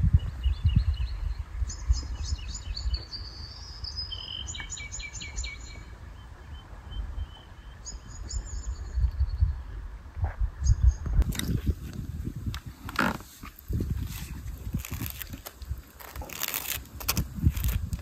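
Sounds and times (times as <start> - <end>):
songbirds chirping: 0.1 - 16.1.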